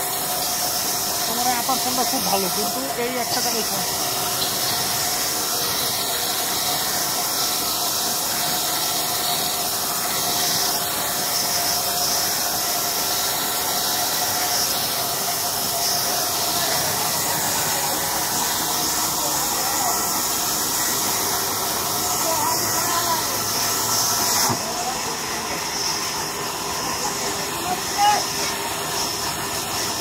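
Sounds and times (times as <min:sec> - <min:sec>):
band saw cutting through log: 0:00.0 - 0:30.0
steady hum: 0:00.0 - 0:30.0.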